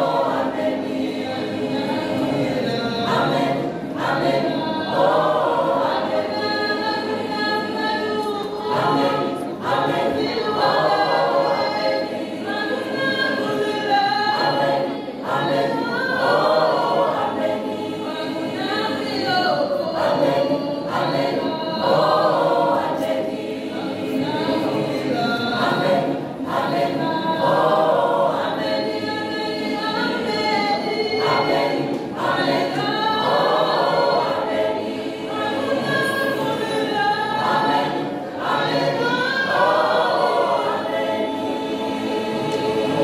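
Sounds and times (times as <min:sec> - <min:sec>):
mixed choir singing in harmony: 0:00.0 - 0:43.0.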